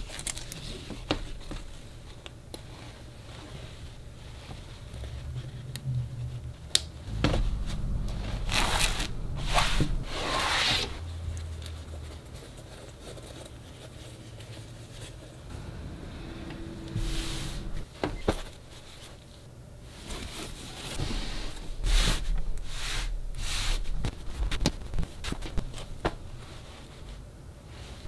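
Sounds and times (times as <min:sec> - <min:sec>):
fabric rustling and rubbing: 0:00.0 - 0:28.0.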